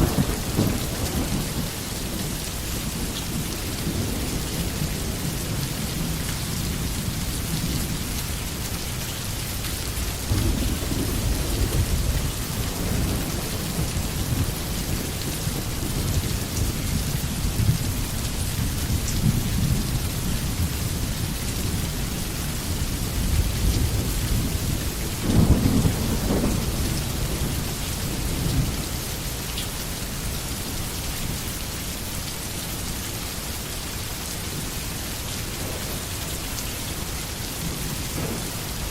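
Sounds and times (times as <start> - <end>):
low thunder rumbling: 0.0 - 8.8, 9.8 - 29.4, 35.3 - 38.9
heavy rain falling: 0.0 - 38.9.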